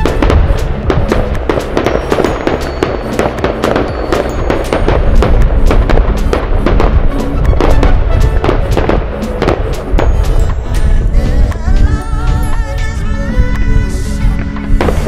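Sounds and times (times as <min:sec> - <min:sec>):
fireworks bangs and crackling: 0:00.0 - 0:12.6, 0:14.6 - 0:15.0
background music: 0:00.0 - 0:15.0.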